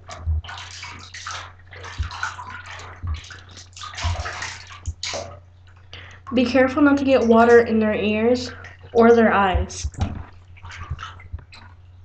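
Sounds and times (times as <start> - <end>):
water splashing in a bath: 0.0 - 12.0.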